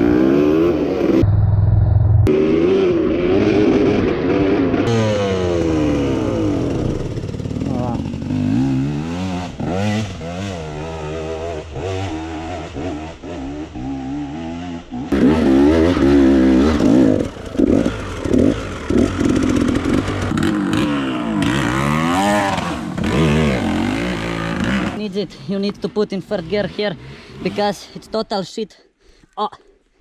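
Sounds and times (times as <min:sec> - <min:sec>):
dirt bike engine revving: 0:00.0 - 0:01.2, 0:02.3 - 0:28.0.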